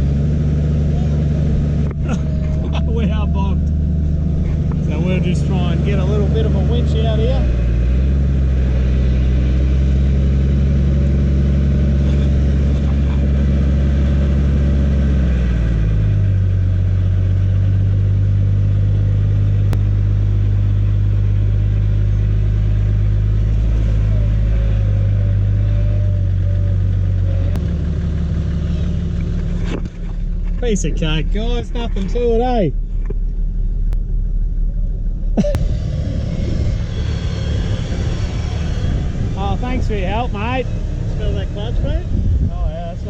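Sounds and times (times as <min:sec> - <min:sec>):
truck engine under load: 0:00.0 - 0:43.0.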